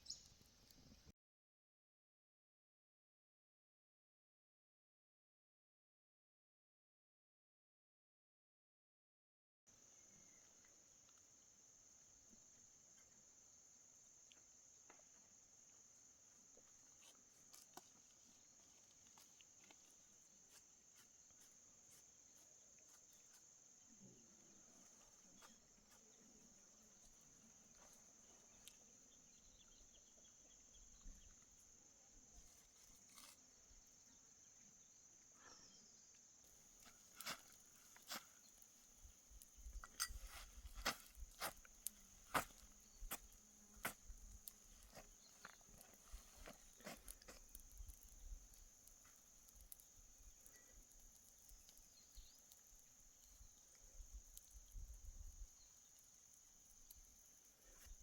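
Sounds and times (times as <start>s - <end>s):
crickets chirring: 0.0s - 1.0s, 9.7s - 58.0s.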